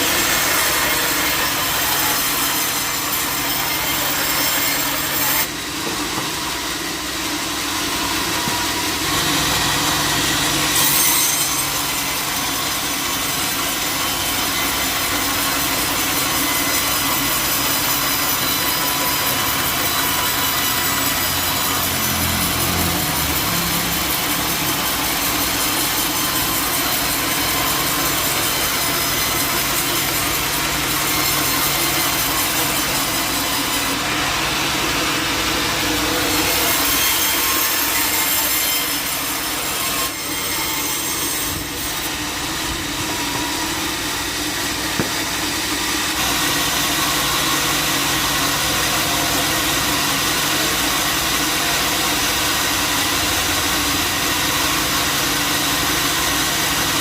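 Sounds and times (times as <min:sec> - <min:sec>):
saw blade cutting through log: 0:00.0 - 0:57.0.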